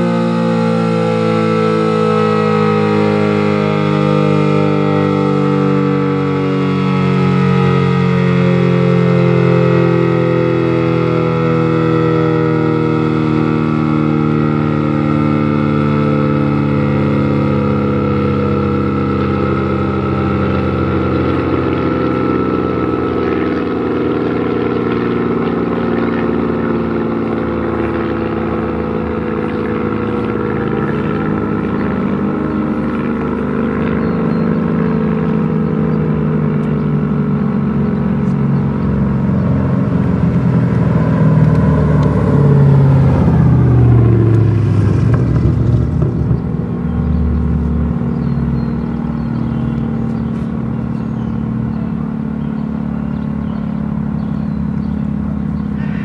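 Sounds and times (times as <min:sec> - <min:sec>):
warning siren: 0:00.0 - 0:56.0.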